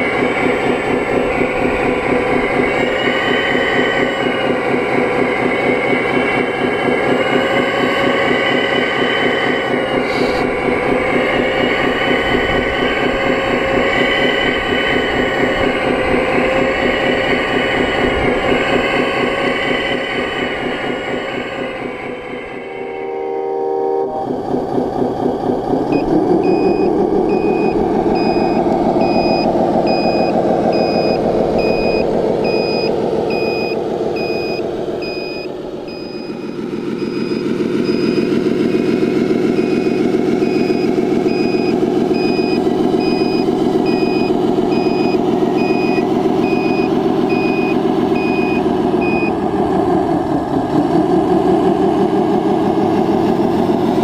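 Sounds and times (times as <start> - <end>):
reversing beeper: 0.0 - 49.4
simulated diesel engine running: 0.0 - 54.0.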